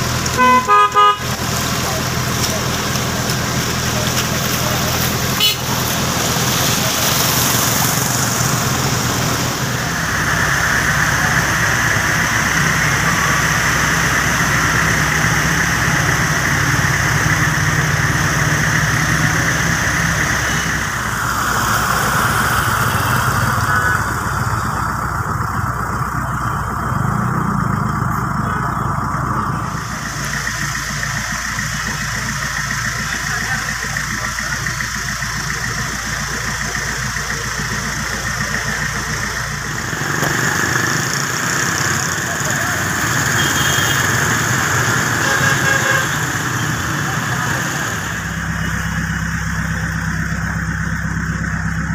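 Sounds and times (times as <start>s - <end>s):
vehicle engines humming: 0.0s - 51.9s.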